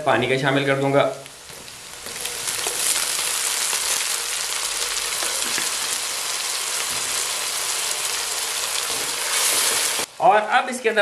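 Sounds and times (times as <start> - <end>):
loud sizzle of oil: 0.0 - 11.0.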